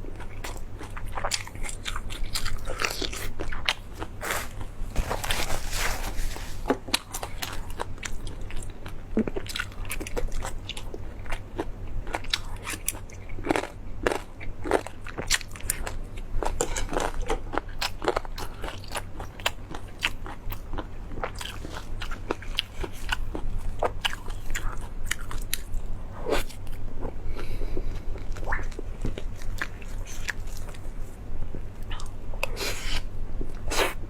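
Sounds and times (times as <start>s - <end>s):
crunchy chewing: 0.1s - 31.0s.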